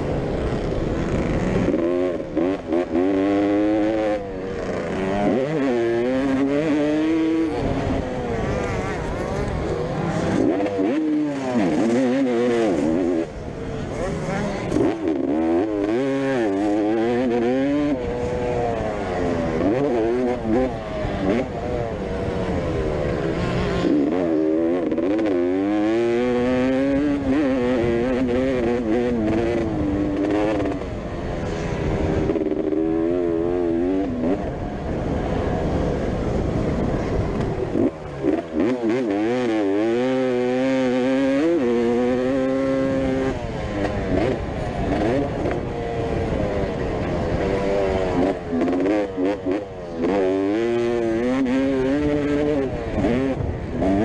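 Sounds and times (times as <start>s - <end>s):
motocross bike engines racing: 0.0s - 54.0s.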